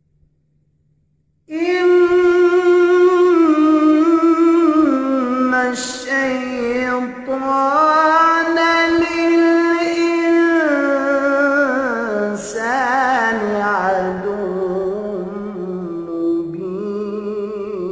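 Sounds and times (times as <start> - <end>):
man reciting melodically: 1.5 - 17.9.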